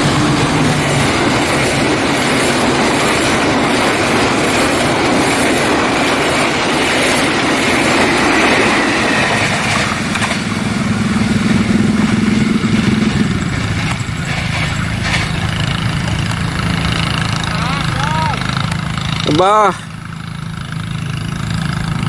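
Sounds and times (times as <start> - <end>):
high ringing from train wheels: 0.0 - 22.0
train wheels rumbling on rails: 0.0 - 22.0.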